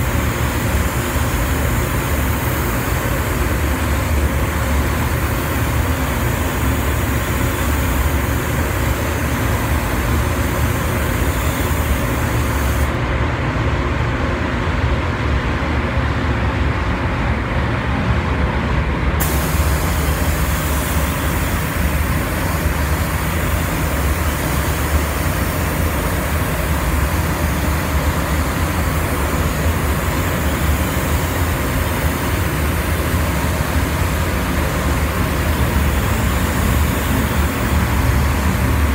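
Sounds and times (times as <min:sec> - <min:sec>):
spray gun hissing: 0:00.0 - 0:13.0, 0:19.2 - 0:38.9
ventilation rushing: 0:00.0 - 0:13.7, 0:17.5 - 0:38.9.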